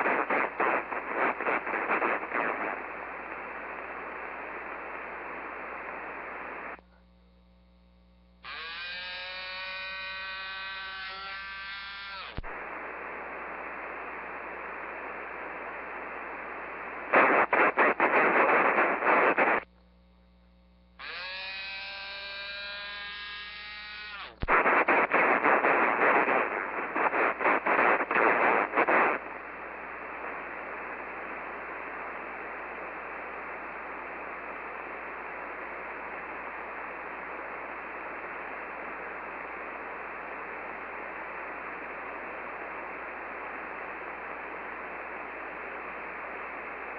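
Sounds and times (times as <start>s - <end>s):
choppy bursts of noise: 0.0s - 6.8s, 8.4s - 19.7s, 21.0s - 46.9s
radio static hiss: 0.0s - 46.9s.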